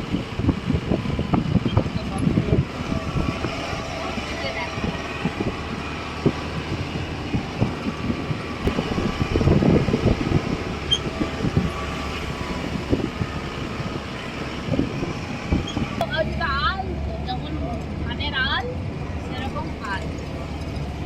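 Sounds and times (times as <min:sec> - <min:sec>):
car driving on road: 0:00.0 - 0:21.0.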